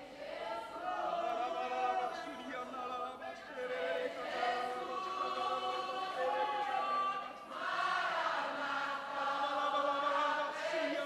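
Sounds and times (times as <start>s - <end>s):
congregation singing softly: 0.0s - 11.0s.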